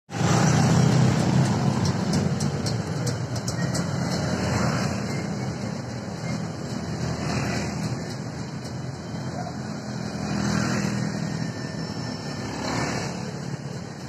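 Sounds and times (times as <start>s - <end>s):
dump truck engine rumble: 0.1s - 12.5s
motorcycles passing: 0.1s - 14.0s.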